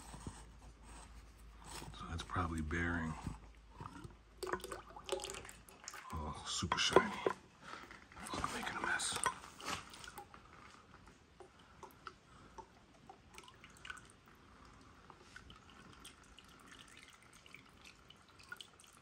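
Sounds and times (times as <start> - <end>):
oil dripping into a bucket: 3.3 - 19.0.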